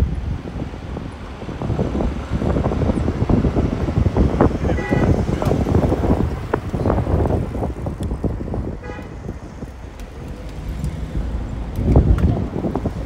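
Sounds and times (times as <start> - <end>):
car road noise: 0.0 - 13.0
wind buffeting microphone: 0.0 - 13.0.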